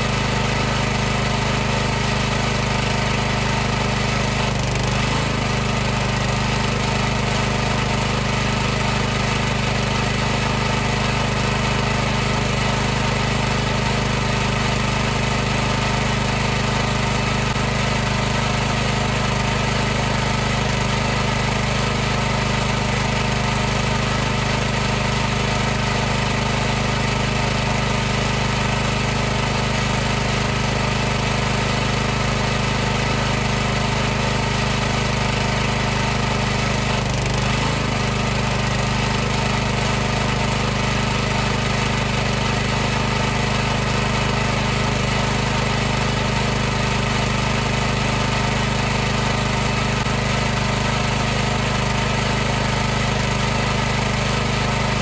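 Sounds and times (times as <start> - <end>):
pressure washer motor and pump: 0.0 - 55.0.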